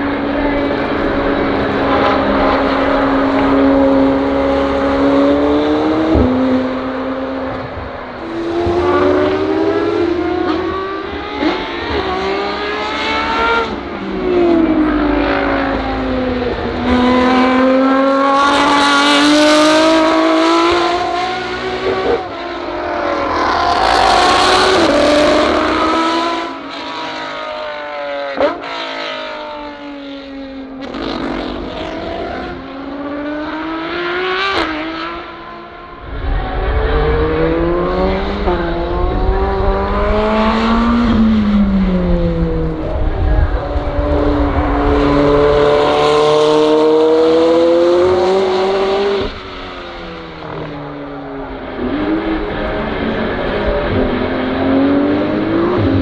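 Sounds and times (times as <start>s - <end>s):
supercars accelerating past: 0.0s - 56.0s.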